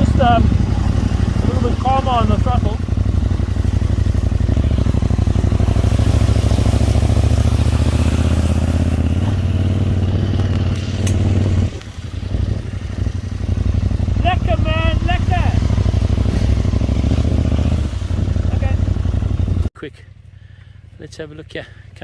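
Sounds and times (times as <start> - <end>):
motorcycle engine under throttle: 0.0 - 19.7.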